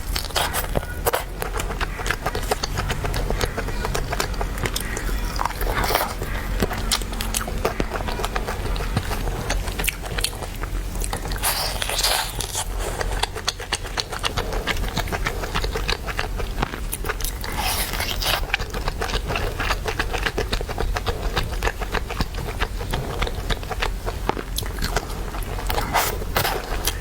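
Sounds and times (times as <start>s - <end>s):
chewing and biting chicken: 0.0s - 27.0s.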